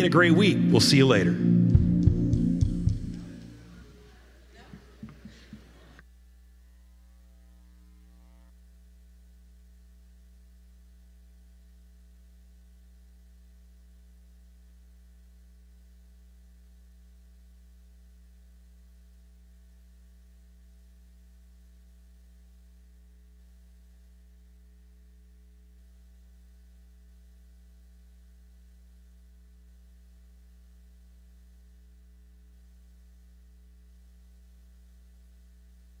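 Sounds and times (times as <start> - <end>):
faint mains hum: 0.0 - 36.0.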